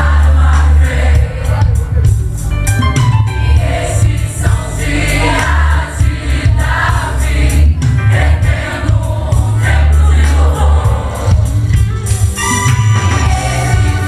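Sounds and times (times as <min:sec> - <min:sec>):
voices singing together: 0:00.0 - 0:02.4, 0:03.2 - 0:14.0
band with heavy bass and drums: 0:00.0 - 0:14.0.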